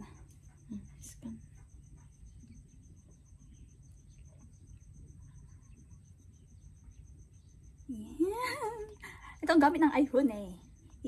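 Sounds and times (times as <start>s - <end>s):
faint cricket trill: 0.0s - 11.0s.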